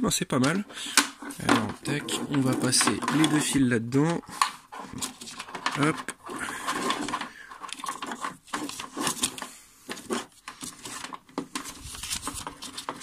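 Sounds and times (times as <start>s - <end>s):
hands rubbing and rustling cable: 0.3s - 13.0s.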